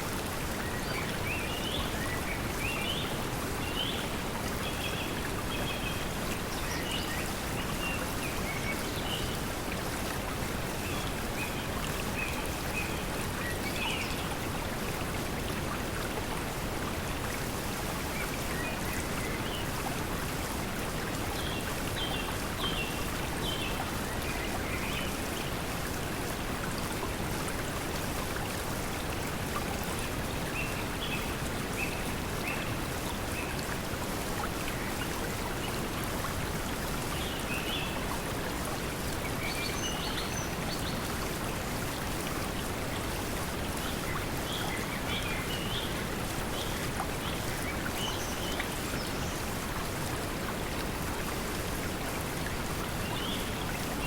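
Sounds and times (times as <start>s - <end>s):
flowing water: 0.0s - 54.0s.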